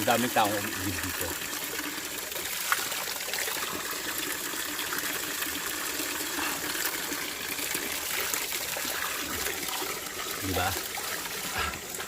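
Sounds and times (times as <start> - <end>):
stream water gushing: 0.0 - 12.0.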